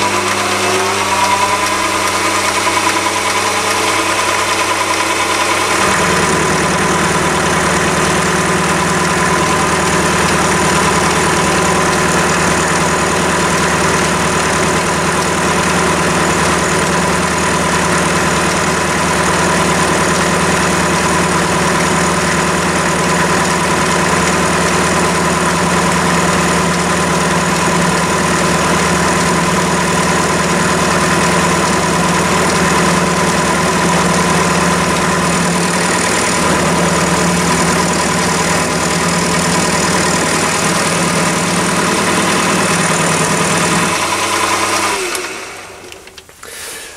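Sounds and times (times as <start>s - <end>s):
lathe motor humming with high whine: 0.0s - 46.9s.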